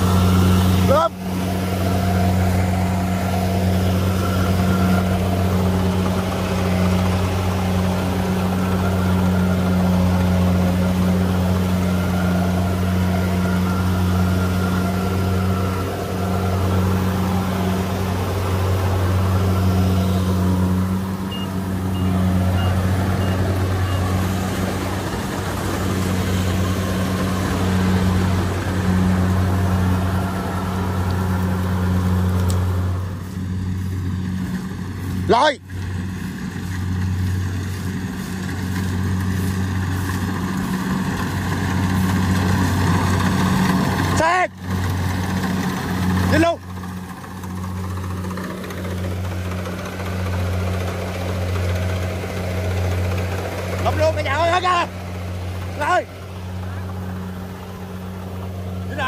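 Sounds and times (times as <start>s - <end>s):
farm machine engine running: 0.0s - 59.0s.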